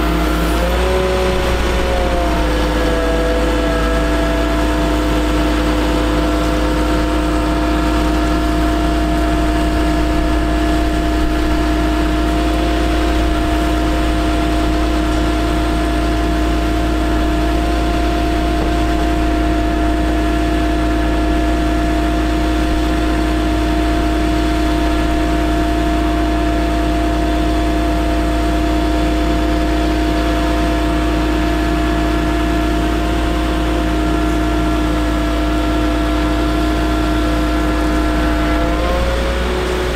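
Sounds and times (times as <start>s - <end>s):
constant hum: 0.0s - 39.9s
diesel engine running: 0.0s - 39.9s.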